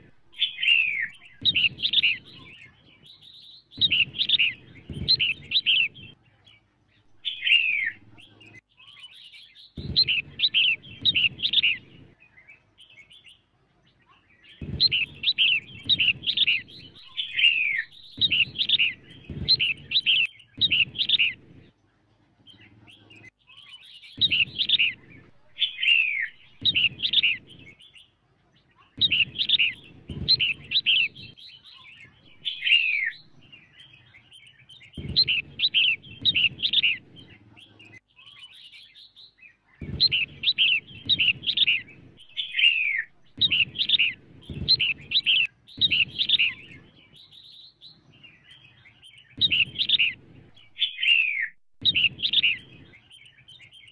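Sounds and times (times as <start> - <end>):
bird chirping calls: 0.0 - 21.8, 22.4 - 53.9.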